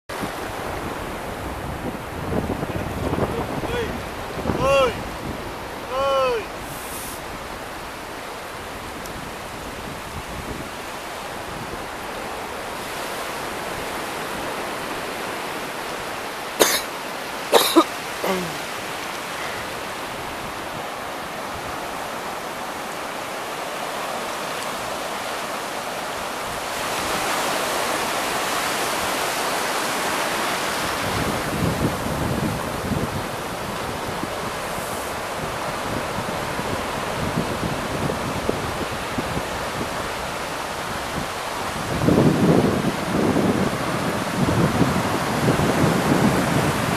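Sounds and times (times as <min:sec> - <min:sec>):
surf breaking on beach: 0:00.1 - 0:46.9.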